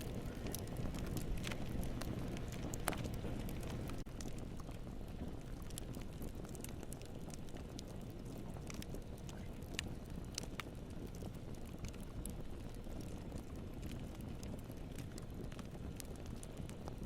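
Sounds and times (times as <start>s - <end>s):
campfire low rushing: 0.0s - 17.0s
fire crackles and pops: 0.0s - 17.0s.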